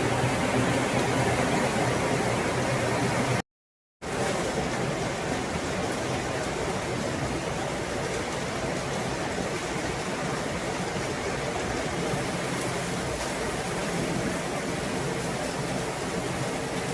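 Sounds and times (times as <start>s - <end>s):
heavy rain falling: 0.0s - 3.4s, 4.0s - 16.9s.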